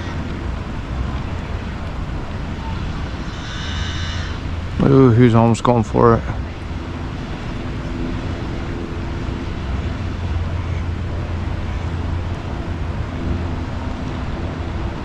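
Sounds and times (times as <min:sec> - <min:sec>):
faint hum: 0:00.0 - 0:15.0
low engine drone: 0:00.0 - 0:15.0.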